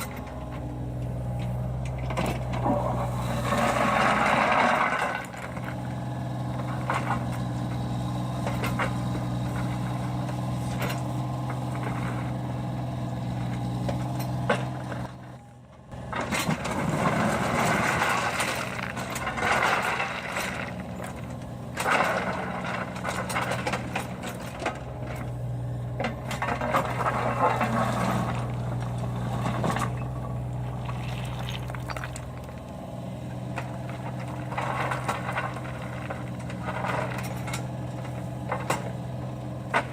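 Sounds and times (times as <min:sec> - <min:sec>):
excavator diesel engine running: 0:00.0 - 0:39.9
machine work noise: 0:00.0 - 0:39.9.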